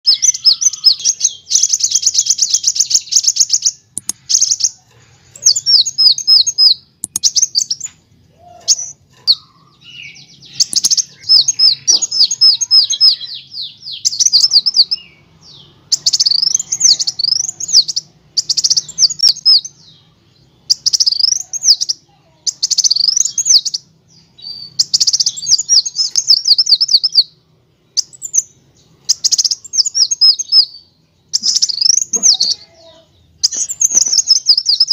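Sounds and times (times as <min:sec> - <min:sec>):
sunbird singing high trills: 0:00.1 - 0:34.9.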